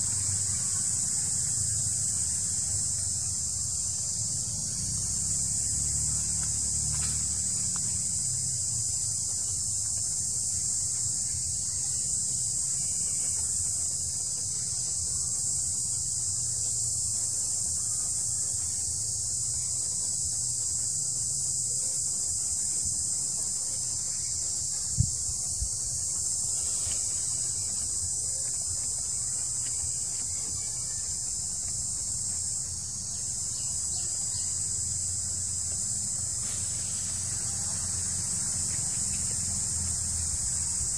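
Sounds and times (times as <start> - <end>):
insects shrilling: 0.0 - 40.9.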